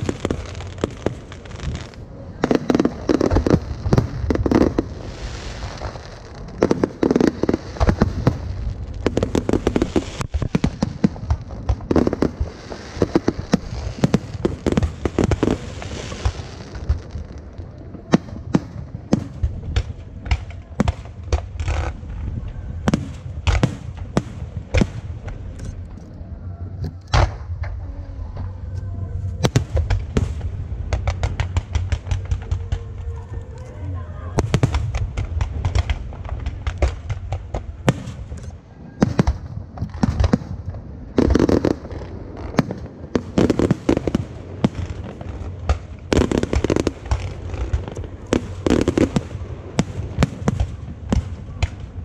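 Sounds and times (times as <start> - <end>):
sharp firework bursts: 0.0 - 22.2, 29.4 - 33.7, 34.3 - 52.0
fireworks bangs and crackling: 0.0 - 25.9, 26.8 - 52.0.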